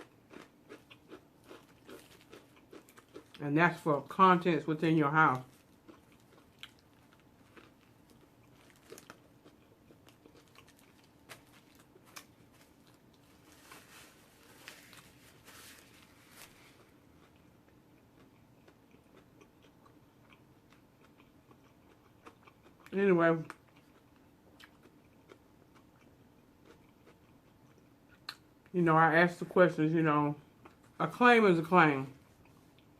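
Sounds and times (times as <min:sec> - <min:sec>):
chewing sandwich: 0:00.0 - 0:03.4, 0:05.4 - 0:28.5.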